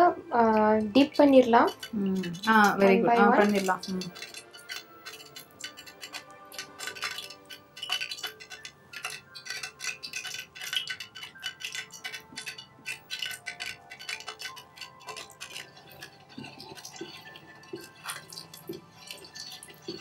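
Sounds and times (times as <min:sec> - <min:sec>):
faint chiming background music: 0:00.0 - 0:20.0
utensils clinking on pan and bowl: 0:00.0 - 0:20.0.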